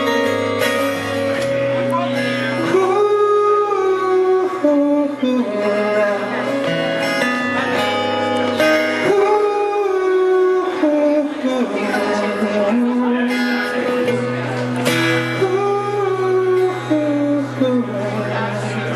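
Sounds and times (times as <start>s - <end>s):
acoustic guitar strummed: 0.0s - 18.9s
man singing: 1.9s - 14.3s, 14.9s - 18.9s.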